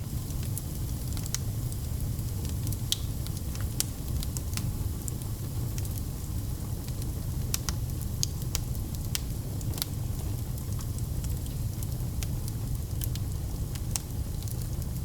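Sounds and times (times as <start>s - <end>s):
wood fire crackling and popping: 0.1s - 1.6s, 2.3s - 15.0s.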